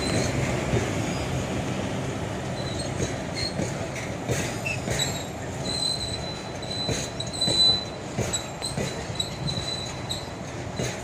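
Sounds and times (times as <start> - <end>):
high wheel squeal: 0.0 - 1.5, 2.4 - 11.0
train wheels on rails: 0.0 - 11.0.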